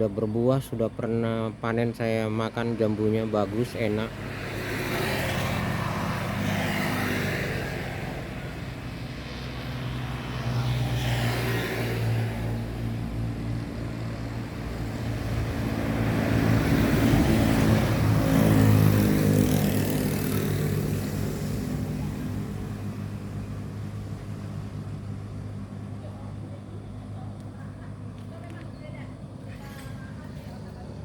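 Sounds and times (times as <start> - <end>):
motor vehicles passing: 0.0 - 31.0.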